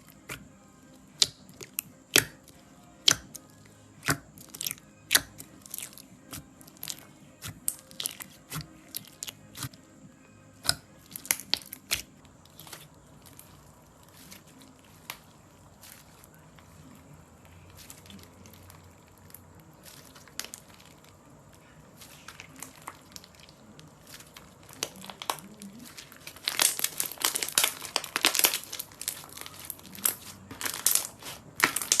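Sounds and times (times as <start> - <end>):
slime crackling: 1.1 - 9.8, 10.6 - 32.0.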